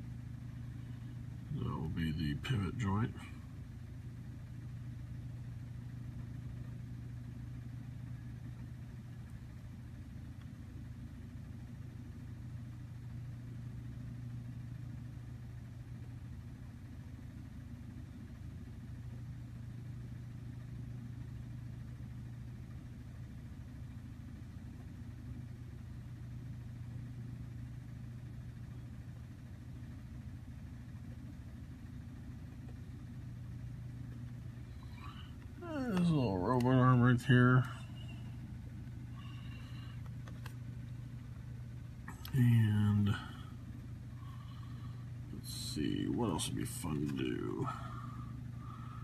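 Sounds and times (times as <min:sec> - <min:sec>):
machine humming: 0:00.0 - 0:49.0.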